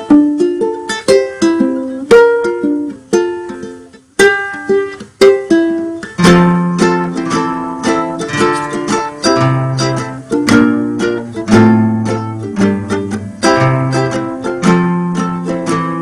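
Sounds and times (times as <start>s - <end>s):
strummed plucked strings music: 0.0s - 16.0s.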